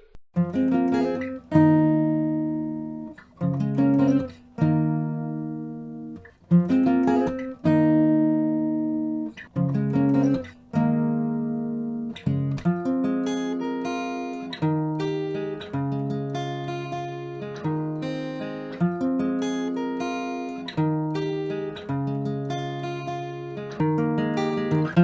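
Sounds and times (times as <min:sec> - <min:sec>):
acoustic guitar chords: 0:00.0 - 0:25.0.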